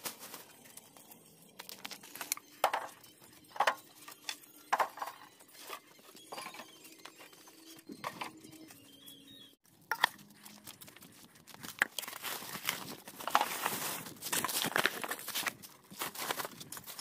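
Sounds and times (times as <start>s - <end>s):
rustling and crinkling: 0.0s - 8.9s, 10.0s - 17.0s.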